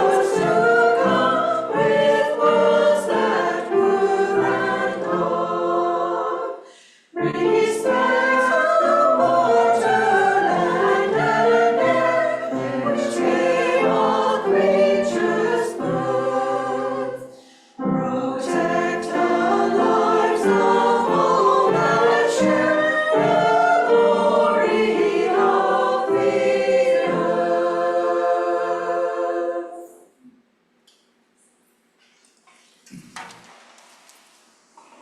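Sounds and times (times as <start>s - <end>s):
choir singing: 0.0s - 30.3s.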